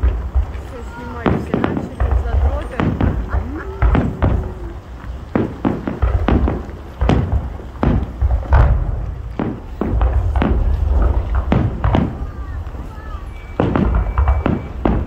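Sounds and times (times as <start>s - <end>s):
fireworks bursting with bangs: 0.0s - 15.0s
low continuous rumble: 0.0s - 15.0s.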